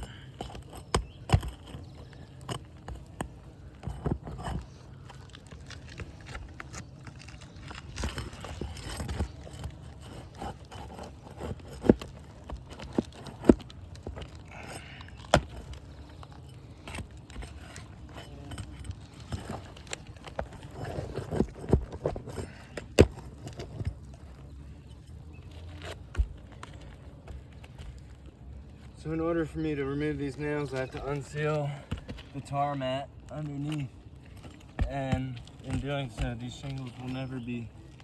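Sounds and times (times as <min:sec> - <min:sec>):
shingles scraping and crackling: 0:00.0 - 0:38.0.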